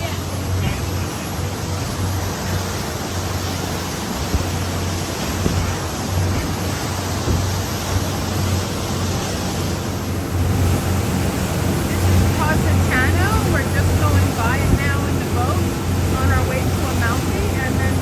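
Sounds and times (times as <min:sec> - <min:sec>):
boat engine humming: 0:00.0 - 0:18.0
wind and water rushing: 0:00.0 - 0:18.0.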